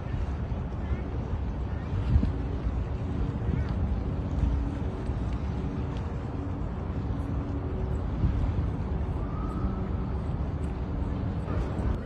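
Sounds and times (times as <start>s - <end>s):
faint humming tones: 0.0s - 12.0s
subway train rumble: 0.0s - 12.0s.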